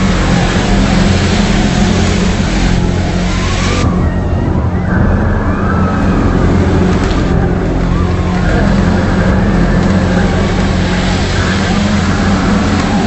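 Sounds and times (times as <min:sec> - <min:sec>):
faint wavering high notes: 0:00.0 - 0:13.0
loud low droning hum: 0:00.0 - 0:13.0.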